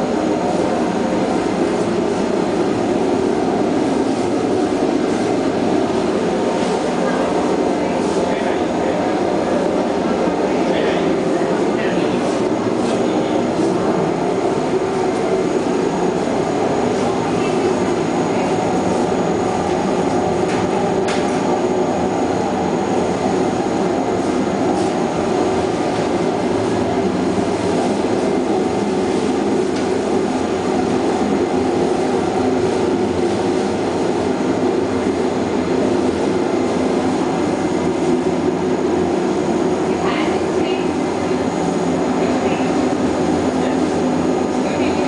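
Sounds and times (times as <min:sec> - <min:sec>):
drying machine drone with whine: 0:00.0 - 0:45.0.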